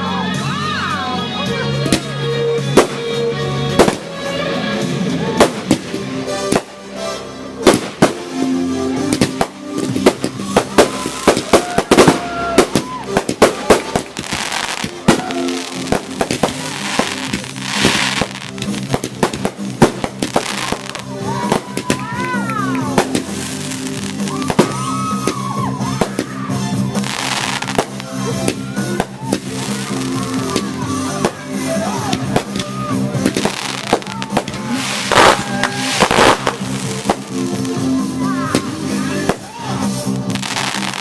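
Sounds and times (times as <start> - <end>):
music: 0.0 - 41.0
fireworks bangs: 3.8 - 4.4, 5.3 - 8.5, 9.1 - 41.0
fireworks hissing: 5.4 - 41.0.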